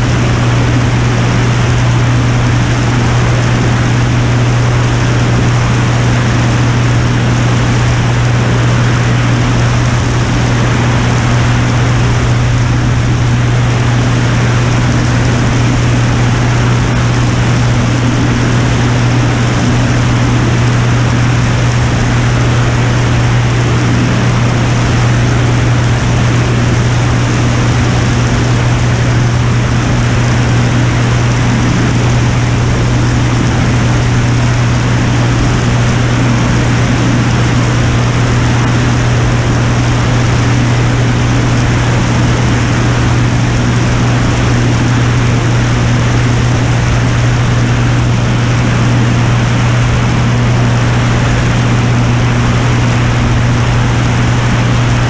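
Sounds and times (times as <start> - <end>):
aircraft engine drone: 0.0 - 55.0
heavy wind rush: 0.0 - 55.0.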